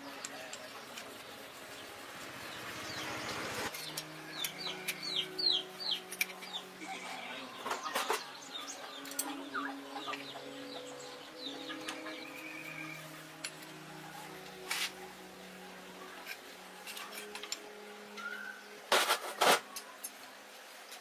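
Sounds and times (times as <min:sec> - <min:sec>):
birds and chickens chirping: 0:00.0 - 0:18.9.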